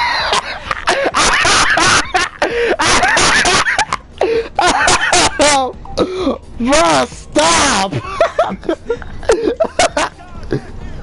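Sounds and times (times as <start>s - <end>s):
man laughing and wheezing: 0.0s - 6.5s, 7.8s - 11.0s.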